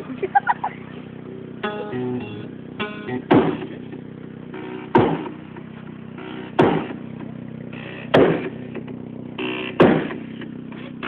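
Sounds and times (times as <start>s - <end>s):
heavy bass hits from car speakers: 0.3s - 11.0s.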